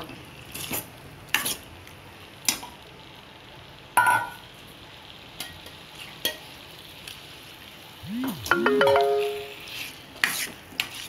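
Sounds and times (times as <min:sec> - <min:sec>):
gravy sizzling in a pan: 0:00.0 - 0:08.0, 0:09.3 - 0:11.0.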